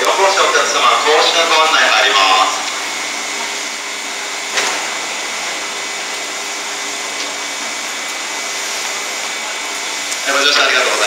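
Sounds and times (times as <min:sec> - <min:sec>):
train mechanical whir and whine: 0:00.0 - 0:11.0.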